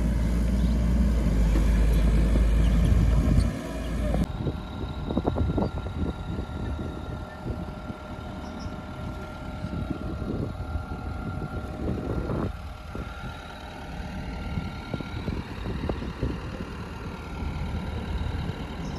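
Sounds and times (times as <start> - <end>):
excavator mechanical whine: 0.0 - 18.9.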